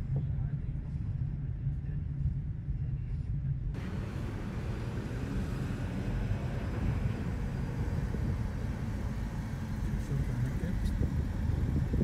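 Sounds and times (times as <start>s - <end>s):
vehicle and road rumble: 0.0s - 12.0s.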